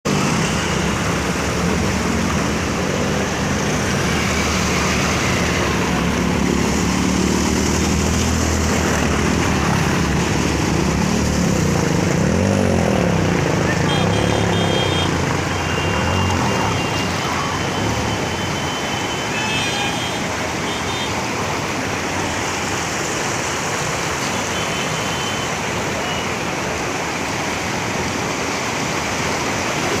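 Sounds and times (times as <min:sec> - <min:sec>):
heavy rain: 0:00.1 - 0:30.0
waterfall rushing: 0:00.1 - 0:30.0.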